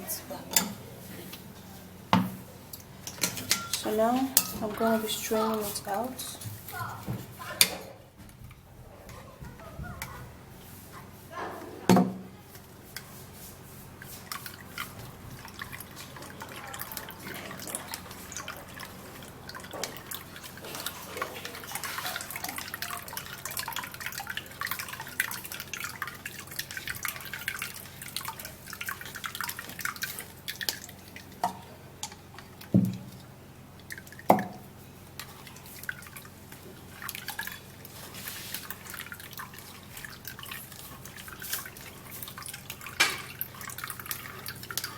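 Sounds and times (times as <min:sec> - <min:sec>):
juice dripping through a sieve: 0:00.9 - 0:08.8, 0:09.4 - 0:44.9.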